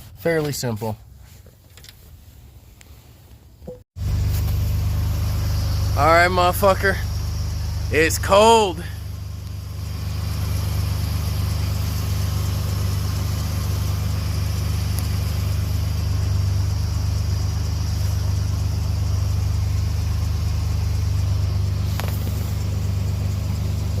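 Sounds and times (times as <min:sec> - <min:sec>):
car engine idling: 0:01.0 - 0:24.0.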